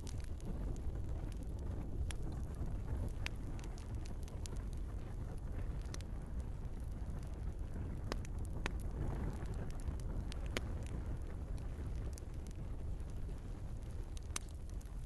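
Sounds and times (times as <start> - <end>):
burning wood crackling and popping: 0.0 - 15.0
fire rumbling: 0.0 - 15.0.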